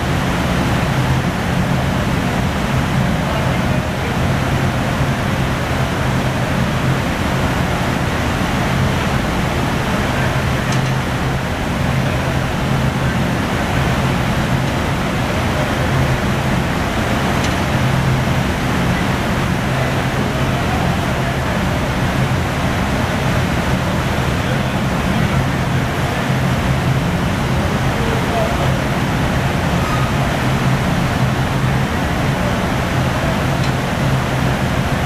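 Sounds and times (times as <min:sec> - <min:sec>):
constant low hum: 0:00.0 - 0:35.0
large fans running: 0:00.0 - 0:35.0.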